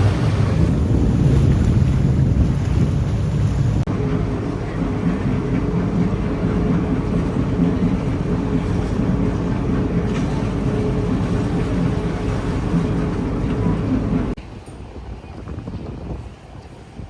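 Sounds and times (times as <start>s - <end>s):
train rumbling past: 0.0s - 15.2s.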